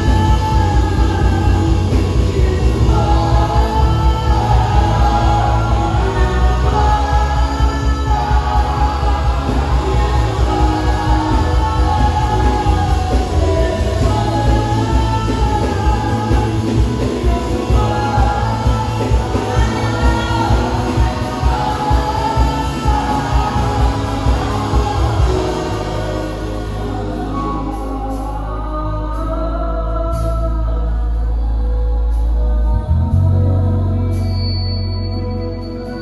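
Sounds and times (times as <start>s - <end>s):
electric band playing: 0.0s - 30.8s
male backing singers: 0.0s - 30.8s
woman singing lead: 0.0s - 36.0s.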